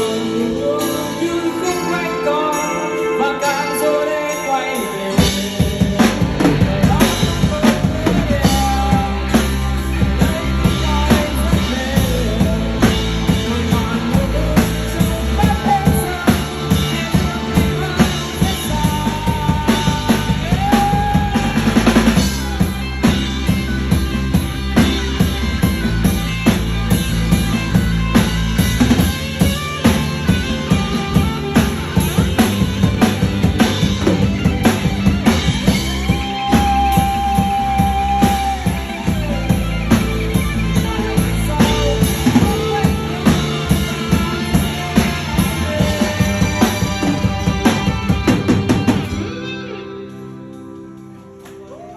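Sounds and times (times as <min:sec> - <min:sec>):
drum kit and bass beat: 0:00.0 - 0:02.8, 0:04.2 - 0:49.5
rock music: 0:00.0 - 0:51.9.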